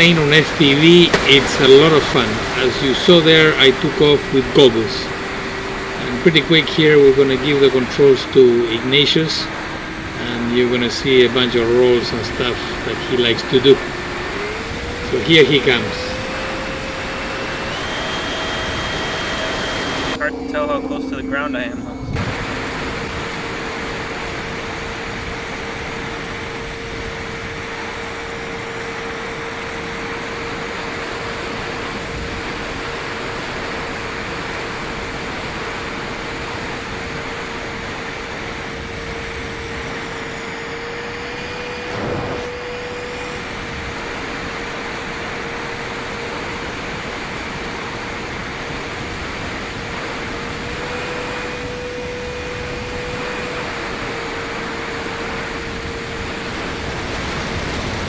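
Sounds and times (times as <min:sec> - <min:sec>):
electric ducted fans whining: 0:00.0 - 0:58.0.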